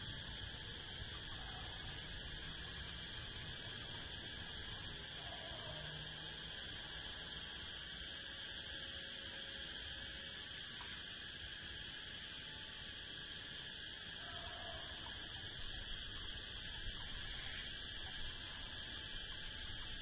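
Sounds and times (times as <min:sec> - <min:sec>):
high insect chorus: 0:00.0 - 0:20.0.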